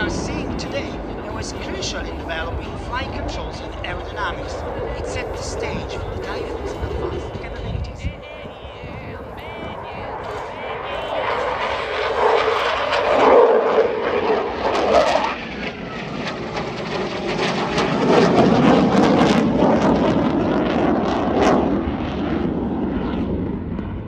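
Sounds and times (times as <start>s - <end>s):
fighter jet engines roaring: 0.0s - 24.0s.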